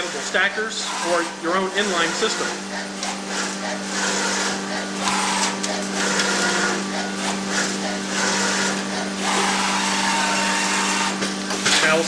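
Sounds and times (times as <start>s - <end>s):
steady machine hum: 0.0s - 12.0s
board rubbing across rollers: 0.8s - 12.0s.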